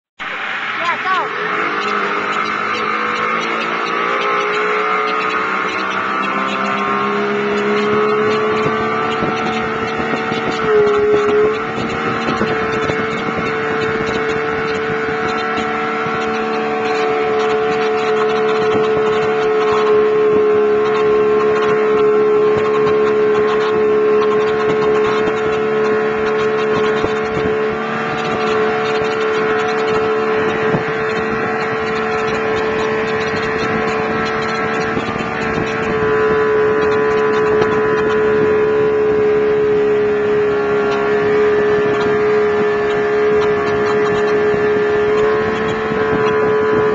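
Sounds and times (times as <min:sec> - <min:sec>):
outboard motor running: 0:00.7 - 0:46.9.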